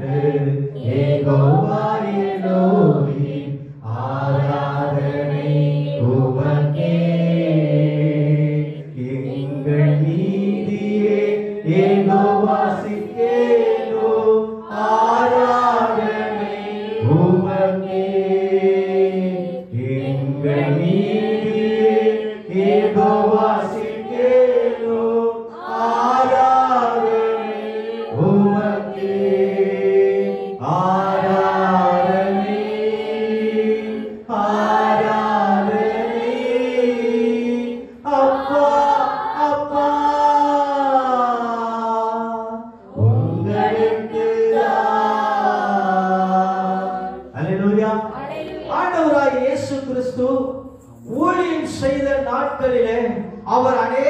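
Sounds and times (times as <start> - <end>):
person singing worship song: 0.0 - 54.0.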